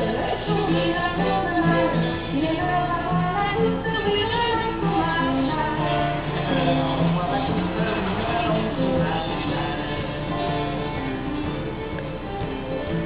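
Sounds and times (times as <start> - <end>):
instrumental accompaniment: 0.0 - 13.0
person singing: 0.0 - 13.0.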